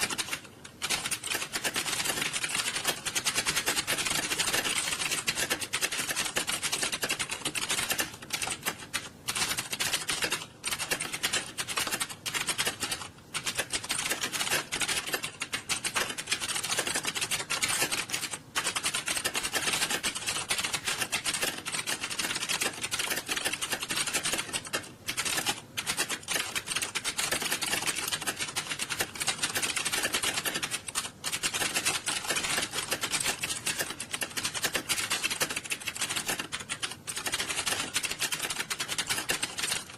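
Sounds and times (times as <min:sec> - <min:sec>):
keyboards clattering: 0:00.0 - 0:39.9.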